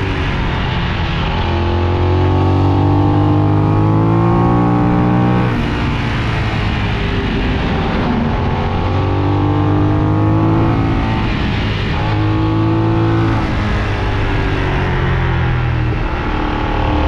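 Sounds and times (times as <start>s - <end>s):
motorcycle engine running: 0.0s - 17.0s
wind and road rush: 0.0s - 17.0s.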